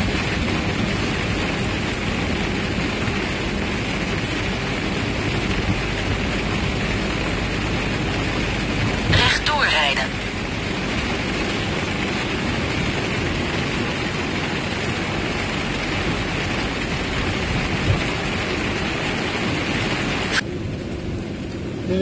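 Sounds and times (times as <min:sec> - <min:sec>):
tyres hissing on wet road: 0:00.0 - 0:20.4
heavy rain on vehicle: 0:00.0 - 0:22.0.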